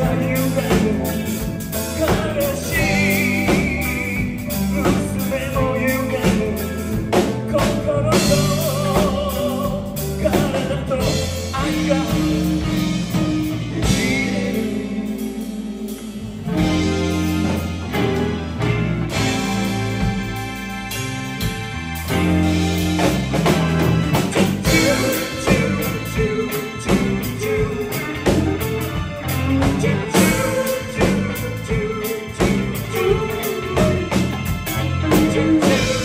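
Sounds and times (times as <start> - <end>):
drum kit: 0.0 - 36.0
electric bass: 0.0 - 36.0
electric guitars: 0.0 - 36.0.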